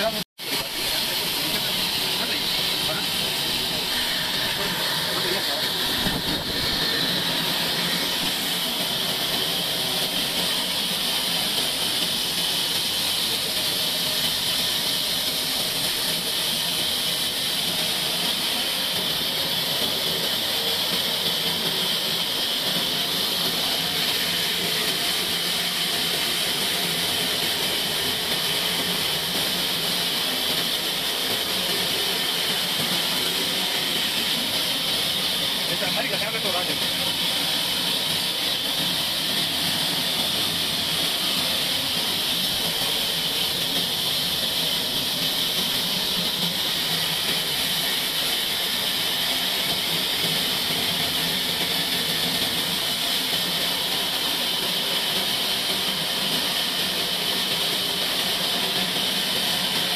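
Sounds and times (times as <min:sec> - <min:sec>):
sawmill machine running: 0:00.0 - 0:59.9.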